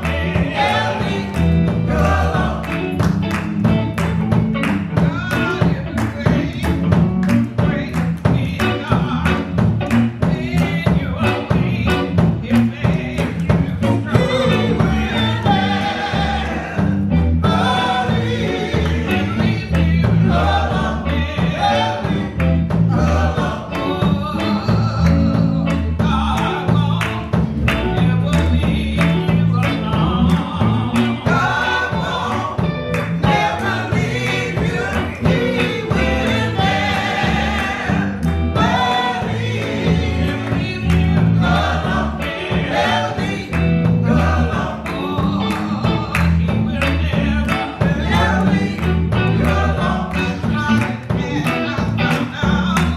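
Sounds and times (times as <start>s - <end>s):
band playing: 0.0s - 52.9s
bass: 0.0s - 52.9s
busy drum beat: 0.0s - 52.9s
gospel choir singing: 0.0s - 52.9s.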